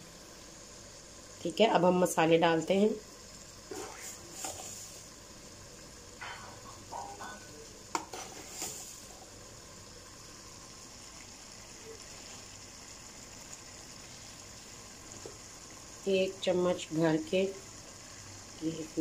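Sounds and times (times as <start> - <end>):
faint frying sizzle: 0.0 - 19.0.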